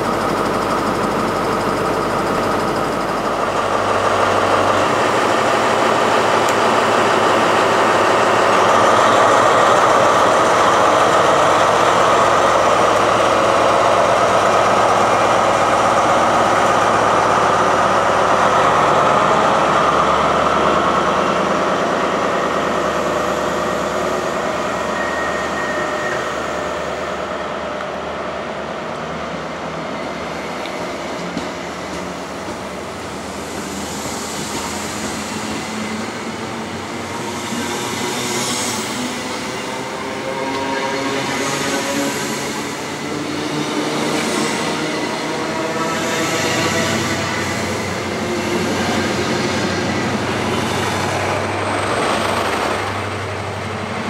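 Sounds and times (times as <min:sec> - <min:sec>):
train rolling through station: 0:00.0 - 0:54.0.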